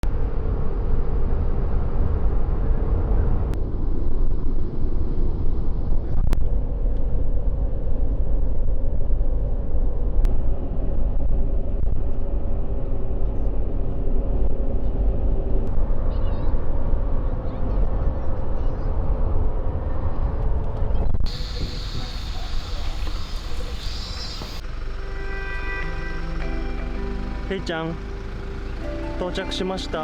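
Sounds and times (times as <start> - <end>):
car engine and road rumble: 0.0 - 30.0
low hum: 0.0 - 30.0.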